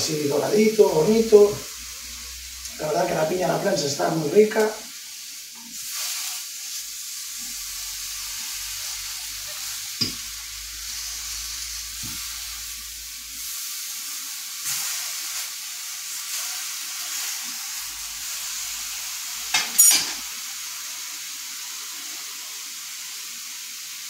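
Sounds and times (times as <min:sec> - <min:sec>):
fruit sizzling in a frying pan: 0:00.0 - 0:24.0.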